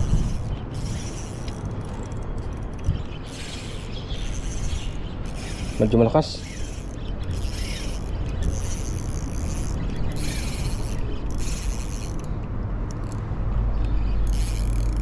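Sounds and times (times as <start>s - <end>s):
spinning reel ratcheting: 0.0s - 12.3s, 14.0s - 15.0s.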